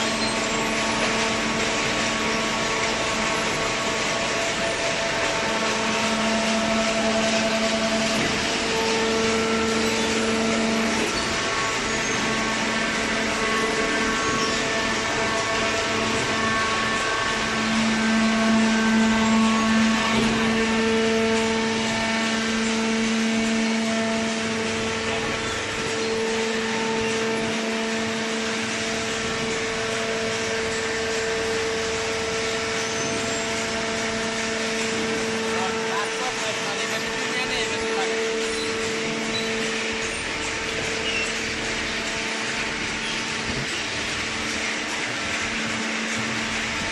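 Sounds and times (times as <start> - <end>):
baler machine hum and whine: 0.0 - 46.9.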